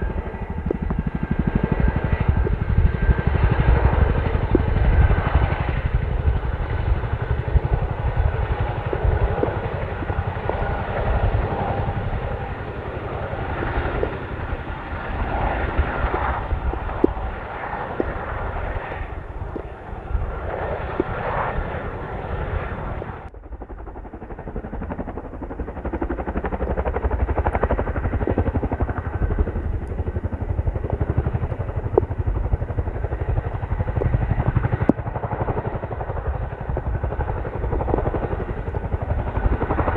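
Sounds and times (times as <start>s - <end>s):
helicopter rotors beating: 0.0s - 39.9s.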